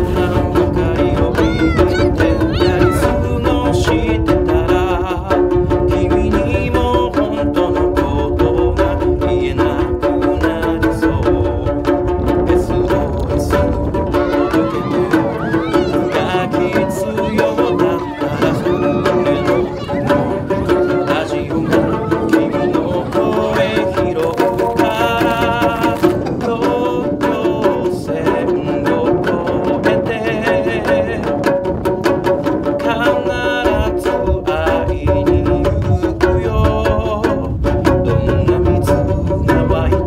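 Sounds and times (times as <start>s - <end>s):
man singing: 0.0s - 40.0s
plucked long-necked lute: 0.0s - 40.0s.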